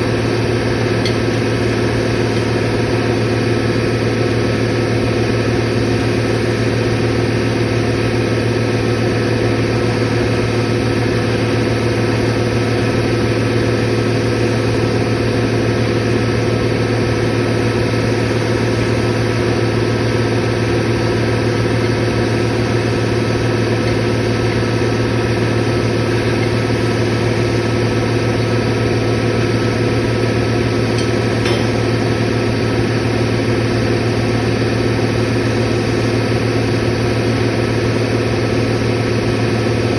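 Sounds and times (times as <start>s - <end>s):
compressor machinery humming: 0.0s - 39.9s.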